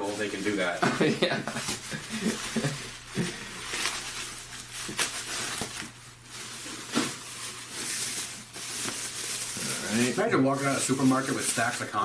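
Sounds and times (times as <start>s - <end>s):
bubble wrap crackles: 0.0s - 12.0s
plastic crinkling and rustling: 0.0s - 12.0s.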